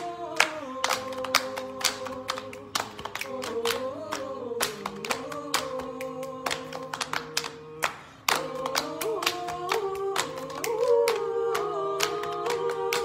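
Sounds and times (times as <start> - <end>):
group singing a cappella: 0.0 - 13.0
hand claps and lap slaps: 0.0 - 13.0.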